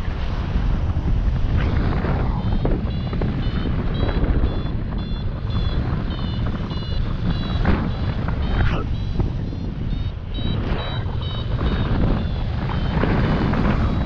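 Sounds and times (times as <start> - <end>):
wind buffeting microphone: 0.0 - 14.0
variometer beeping: 2.4 - 14.0.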